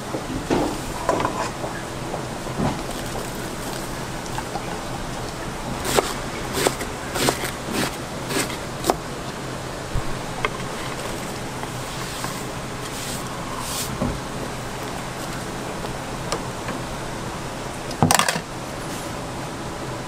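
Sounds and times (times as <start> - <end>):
cooking station hiss and hum: 0.0 - 20.0.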